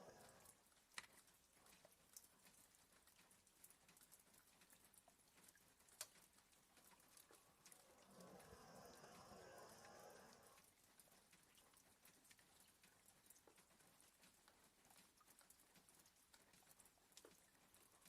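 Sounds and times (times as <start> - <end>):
raindrops tapping on window: 0.0 - 18.0.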